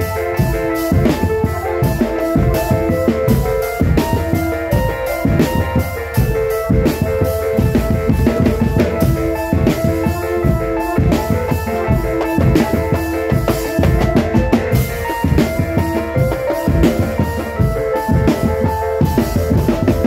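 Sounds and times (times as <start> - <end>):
held melody: 0.0 - 20.0
marching drum band playing: 0.0 - 20.0.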